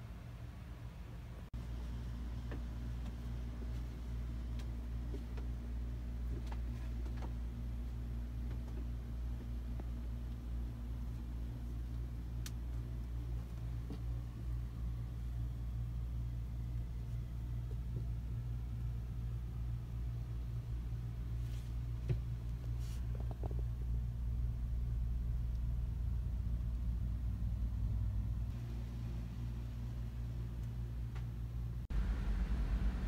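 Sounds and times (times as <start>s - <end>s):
low room hum: 0.0s - 33.0s.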